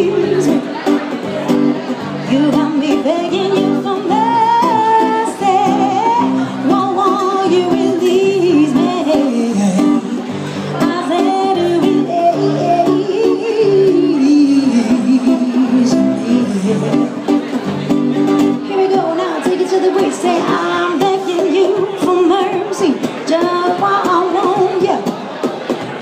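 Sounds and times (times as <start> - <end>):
woman singing with vibrato: 0.0 - 0.8, 2.0 - 17.4, 18.4 - 25.1
acoustic guitar: 0.0 - 26.0.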